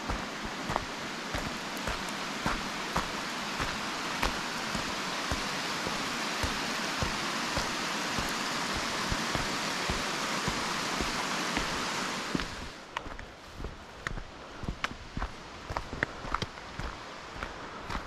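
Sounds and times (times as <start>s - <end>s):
footsteps on gravel steps: 0.0s - 18.0s
steady rushing hiss: 0.0s - 18.0s.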